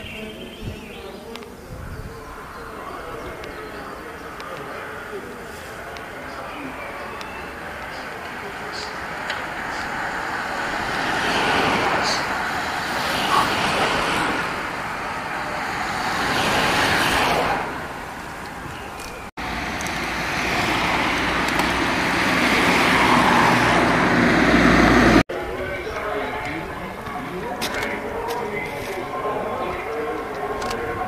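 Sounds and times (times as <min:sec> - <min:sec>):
bicycles passing on asphalt: 0:01.1 - 0:31.0.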